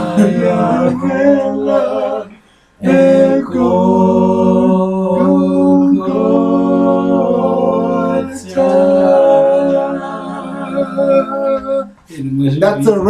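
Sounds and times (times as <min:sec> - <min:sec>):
vocal group singing in harmony: 0:00.0 - 0:12.1.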